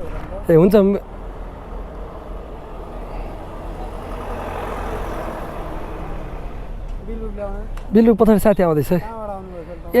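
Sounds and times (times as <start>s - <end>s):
road traffic engines: 0.0s - 10.0s.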